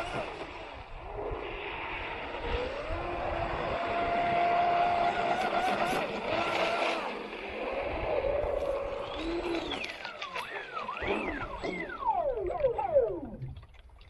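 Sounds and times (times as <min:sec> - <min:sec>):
electric motor whining: 0:00.0 - 0:13.8.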